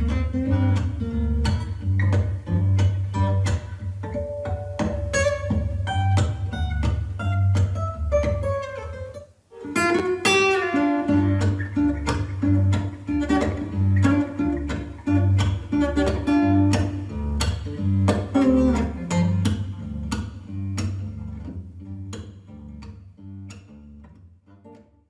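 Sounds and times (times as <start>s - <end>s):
plucked guitar line: 0.0s - 24.9s.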